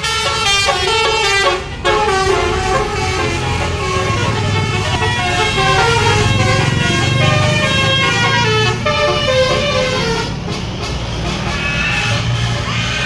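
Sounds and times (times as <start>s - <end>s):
bus engine running: 0.0s - 13.0s
bus horn melody: 0.0s - 13.0s.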